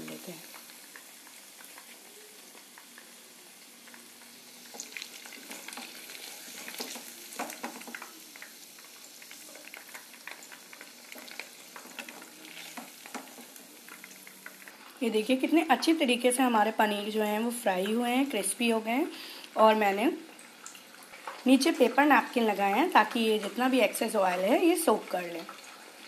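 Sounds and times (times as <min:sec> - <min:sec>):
deep-frying sizzle in oil: 0:00.0 - 0:26.0.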